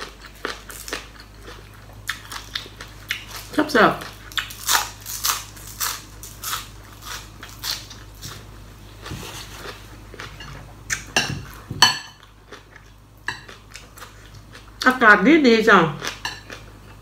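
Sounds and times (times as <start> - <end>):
crunchy chewing: 0.0 - 14.8.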